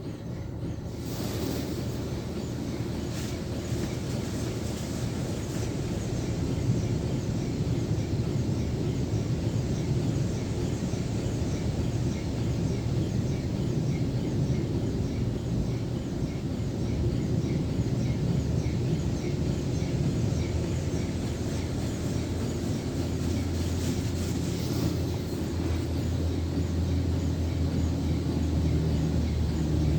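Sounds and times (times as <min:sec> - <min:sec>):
car wash low rumble: 0:00.8 - 0:29.9.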